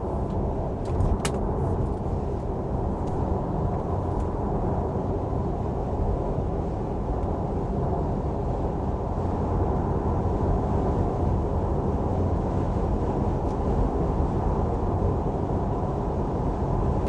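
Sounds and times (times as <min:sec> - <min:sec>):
road and wind noise in car: 0:00.0 - 0:17.0.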